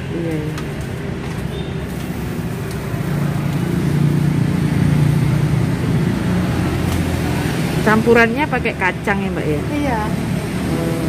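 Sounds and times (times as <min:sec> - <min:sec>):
road traffic noise: 0:00.0 - 0:11.0
vehicle engine hum: 0:00.0 - 0:11.0.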